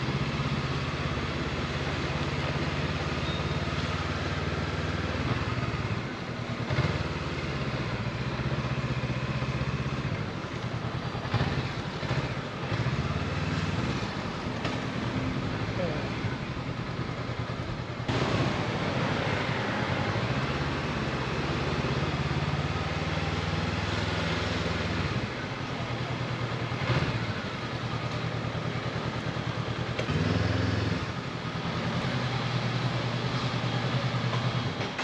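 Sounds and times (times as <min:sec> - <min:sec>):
motorcycle engine running: 0:00.0 - 0:35.0
road noise rushing: 0:00.0 - 0:35.0.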